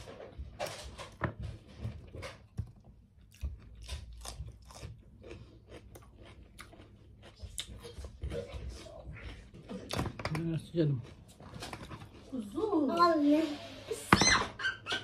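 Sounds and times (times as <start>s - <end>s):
woman chewing bread: 0.0s - 12.8s.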